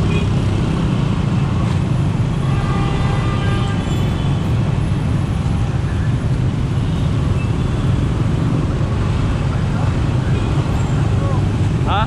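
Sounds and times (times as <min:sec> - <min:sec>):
scooter and motorbike traffic: 0:00.0 - 0:12.0.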